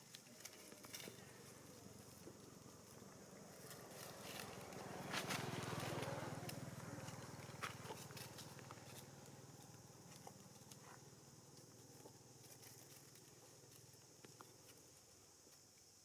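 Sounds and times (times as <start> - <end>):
faint clicks and rustles: 0.0 - 16.0.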